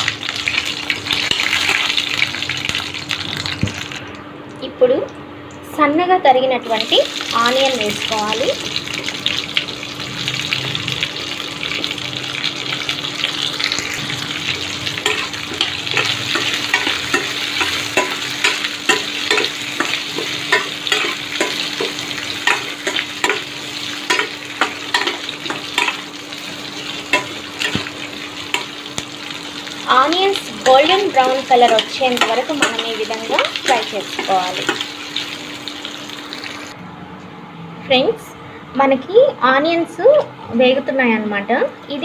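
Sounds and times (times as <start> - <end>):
onions sizzling in oil: 0.0 - 4.1, 6.7 - 36.8.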